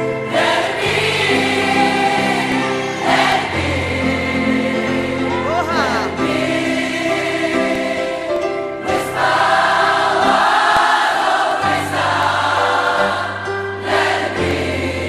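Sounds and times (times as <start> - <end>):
gospel choir singing: 0.0 - 15.0
musical accompaniment: 0.0 - 15.0.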